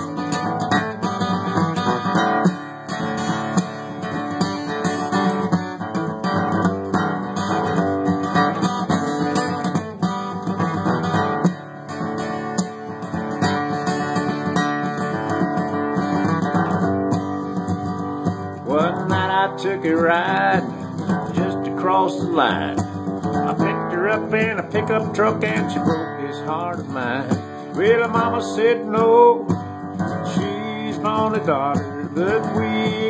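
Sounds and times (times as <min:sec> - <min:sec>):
acoustic guitar strummed and picked: 0:00.0 - 0:33.0.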